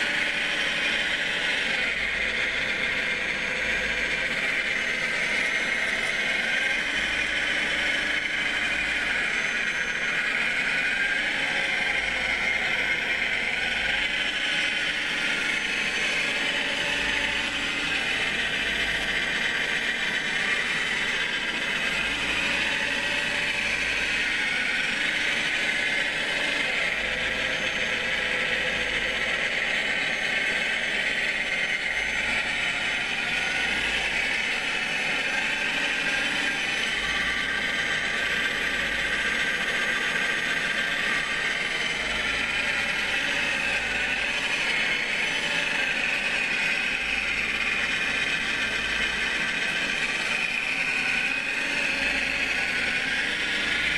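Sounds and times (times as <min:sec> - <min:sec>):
small electric motors whirring: 0:00.0 - 0:53.9.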